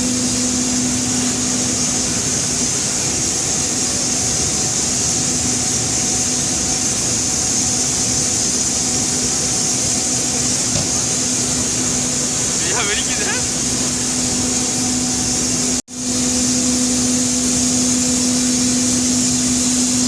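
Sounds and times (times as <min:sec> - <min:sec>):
coal pouring rush: 0:00.0 - 0:20.0.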